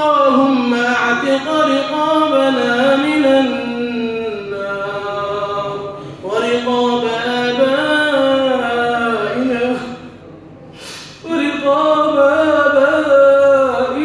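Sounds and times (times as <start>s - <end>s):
man chanting melodic supplication: 0.0s - 10.4s, 11.1s - 14.0s.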